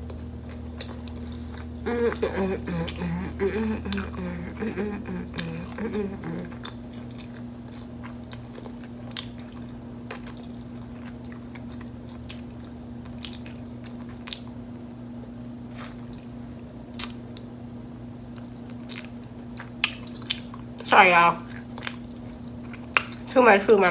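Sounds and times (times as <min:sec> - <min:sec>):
crunchy taco chewing: 0:00.0 - 0:15.0, 0:18.3 - 0:23.3
steady low hum: 0:00.0 - 0:23.9.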